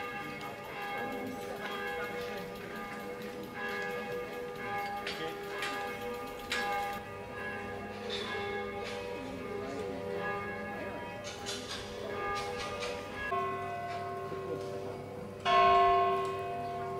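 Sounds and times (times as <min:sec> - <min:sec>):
church bells pealing: 0:00.0 - 0:16.9.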